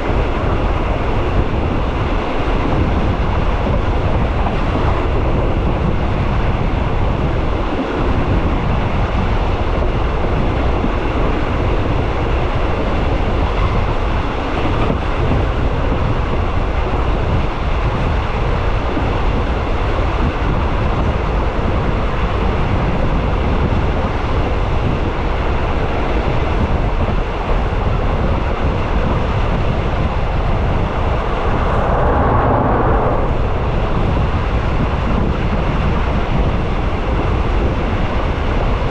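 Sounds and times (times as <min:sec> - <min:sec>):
moving train rumbling: 0:00.0 - 0:38.9.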